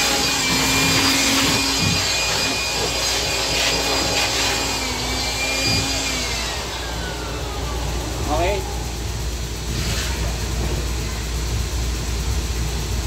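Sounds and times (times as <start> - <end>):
air blower rushing: 0.0 - 12.1
faint whine: 0.0 - 13.0.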